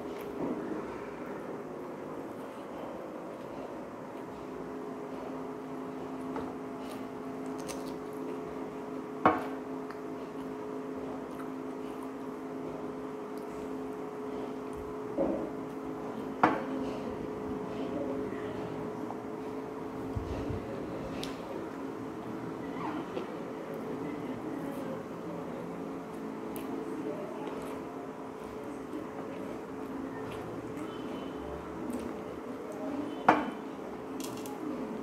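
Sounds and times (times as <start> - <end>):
mechanical hum: 0.0 - 35.0.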